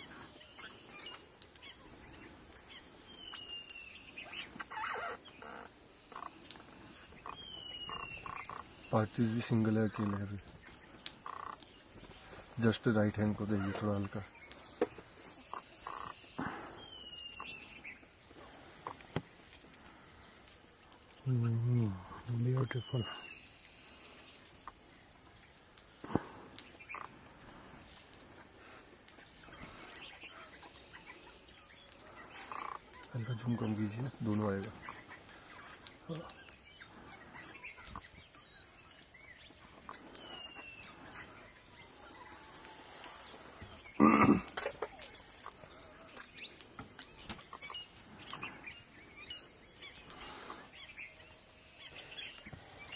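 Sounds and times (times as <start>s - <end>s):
faint birdsong whistles: 0.0s - 9.7s, 13.6s - 18.2s, 20.5s - 26.0s, 29.2s - 44.0s, 45.0s - 52.9s.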